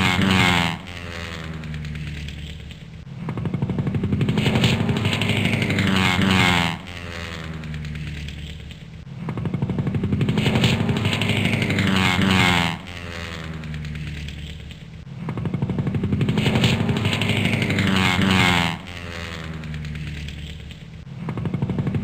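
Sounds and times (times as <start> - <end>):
biplane engine flying past: 0.0 - 22.0.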